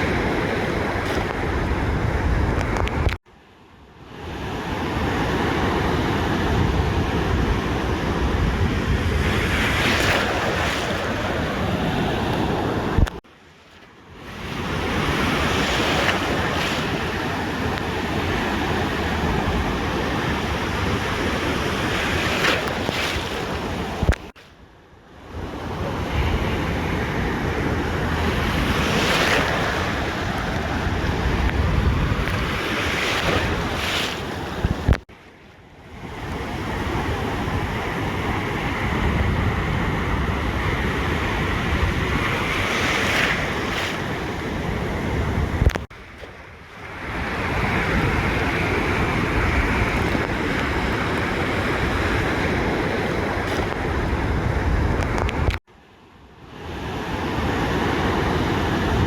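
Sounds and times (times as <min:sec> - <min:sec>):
wind rumbling on microphone: 0:00.0 - 0:03.2, 0:04.3 - 0:13.2, 0:14.2 - 0:24.4, 0:25.3 - 0:35.1, 0:35.8 - 0:55.6
ocean surf breaking on beach: 0:00.0 - 0:59.0.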